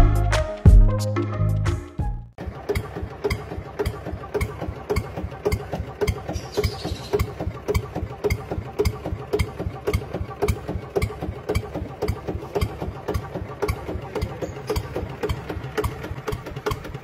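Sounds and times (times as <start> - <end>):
tractor engine idling: 2.3 - 17.0.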